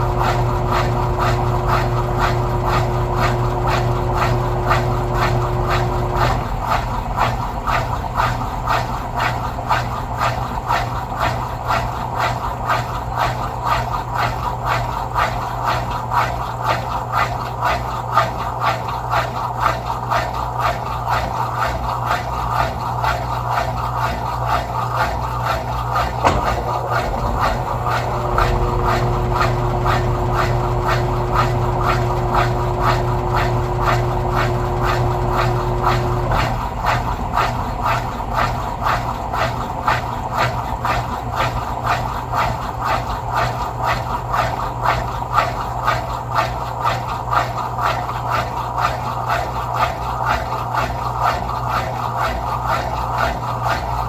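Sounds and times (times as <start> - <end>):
washing machine running: 0.0 - 54.0.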